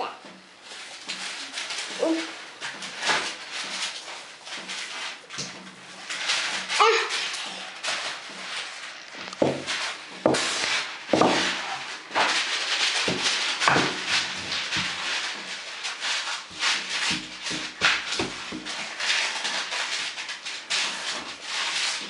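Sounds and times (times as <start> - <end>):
rolling pin scraping over dough: 0.4 - 22.0.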